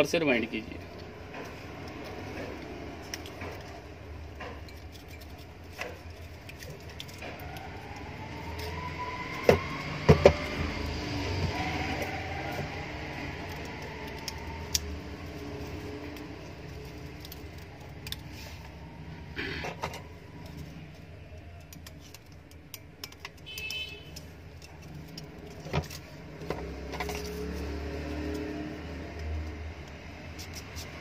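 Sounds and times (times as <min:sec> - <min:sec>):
wire rustling and clicking on metal: 0:00.8 - 0:10.6, 0:11.5 - 0:18.9, 0:19.7 - 0:31.0.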